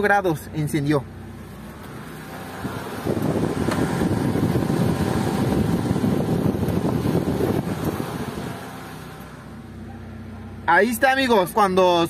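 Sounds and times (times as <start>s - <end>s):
car engine idling: 0.0s - 12.0s
radiator cooling fan running: 0.0s - 12.0s.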